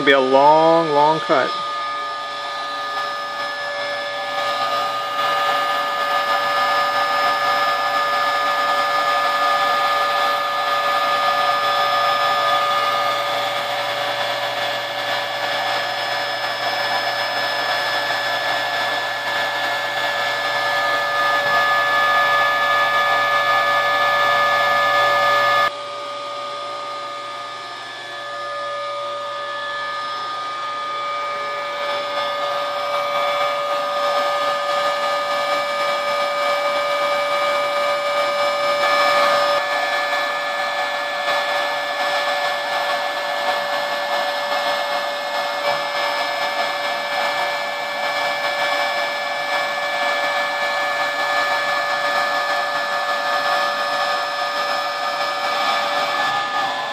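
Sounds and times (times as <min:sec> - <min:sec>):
router spindle motor whine: 0:00.0 - 0:56.9.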